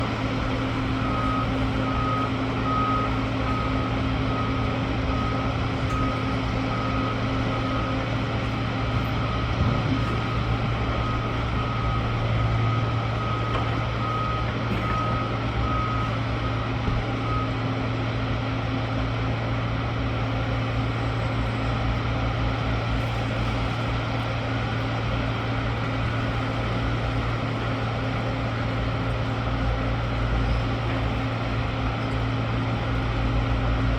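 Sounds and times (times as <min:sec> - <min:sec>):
reversing alarm beeps: 0:00.0 - 0:33.9.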